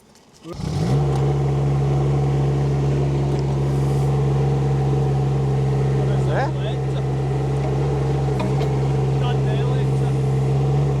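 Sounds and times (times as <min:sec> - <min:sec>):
small diesel engine running: 0:00.5 - 0:11.0.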